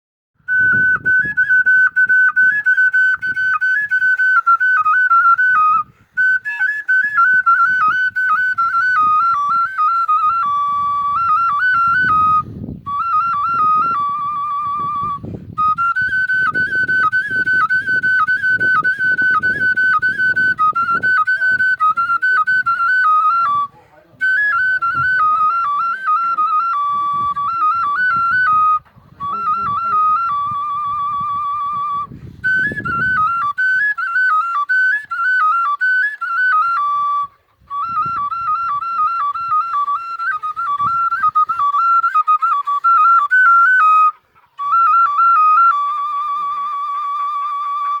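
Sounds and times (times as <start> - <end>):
wooden flute folk melody: 0.4 - 48.0.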